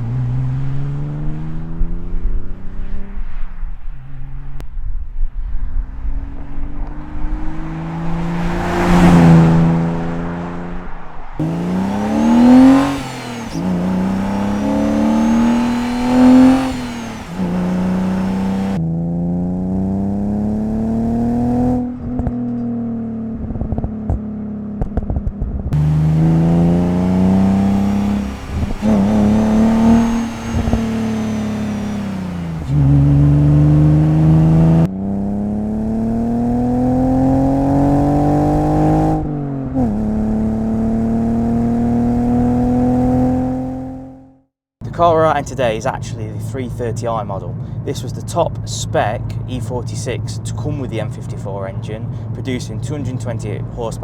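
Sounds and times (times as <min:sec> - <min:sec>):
car engine accelerating: 0:00.0 - 0:05.0, 0:05.6 - 0:54.0.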